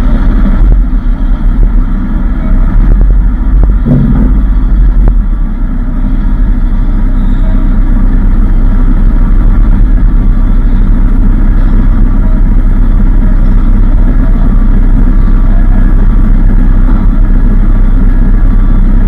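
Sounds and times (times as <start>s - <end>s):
diesel truck engines rumbling: 0.0s - 19.0s.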